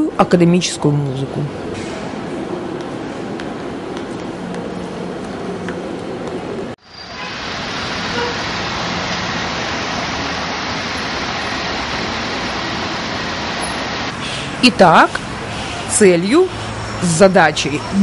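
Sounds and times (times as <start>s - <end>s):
cars passing on street: 0.0s - 18.0s.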